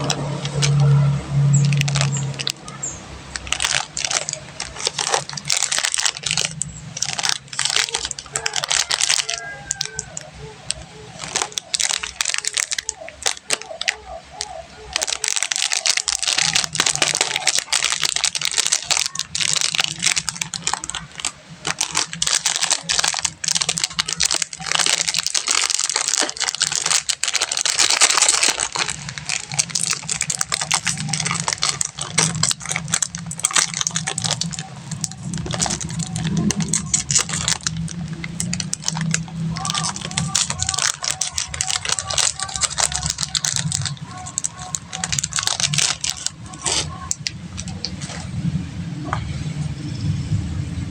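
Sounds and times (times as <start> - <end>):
candy wrappers crinkling: 0.0 - 49.2.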